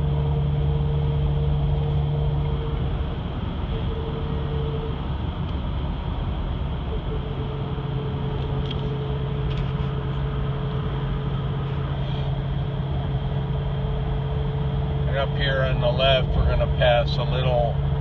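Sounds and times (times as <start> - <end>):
car engine and road noise: 0.0 - 18.0
low hum: 0.0 - 18.0.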